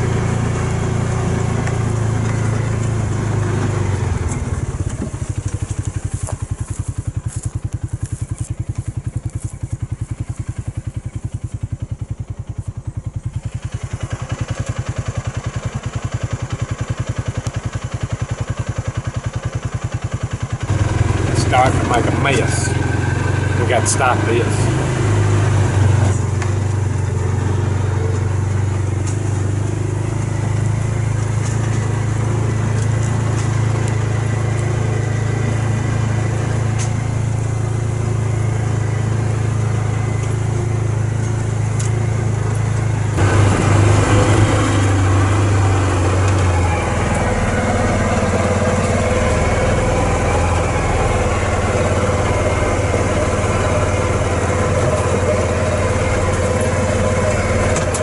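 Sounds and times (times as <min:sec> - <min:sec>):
utility vehicle engine running: 0:00.0 - 0:58.0.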